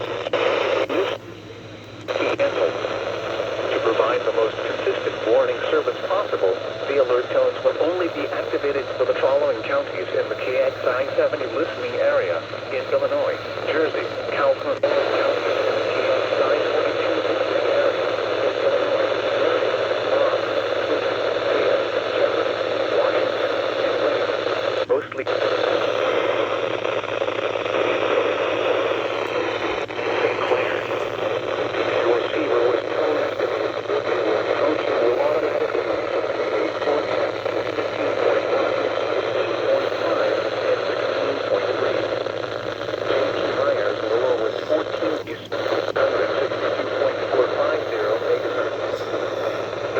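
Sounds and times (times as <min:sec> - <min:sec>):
muffled radio speech: 0:00.0 - 0:49.9
radio static hiss: 0:00.0 - 0:49.9.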